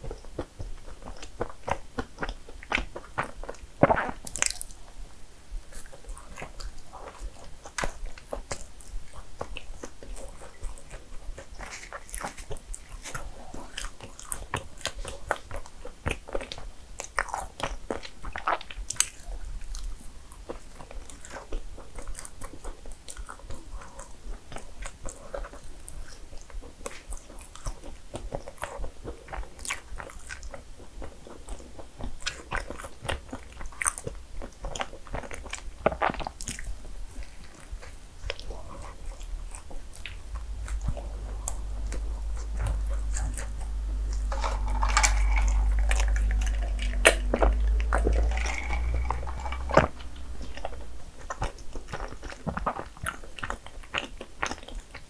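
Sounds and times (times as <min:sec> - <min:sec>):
biting and chewing: 0:00.0 - 0:55.0.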